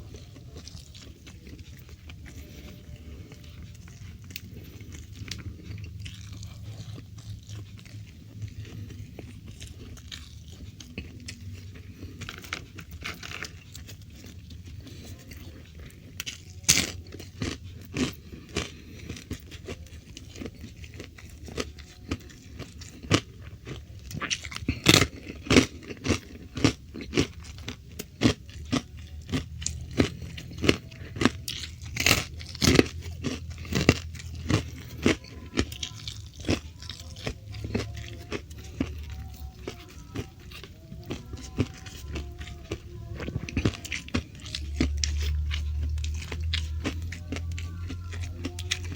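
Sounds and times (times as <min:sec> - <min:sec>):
crunching and chewing crispy food: 0:00.0 - 0:48.9.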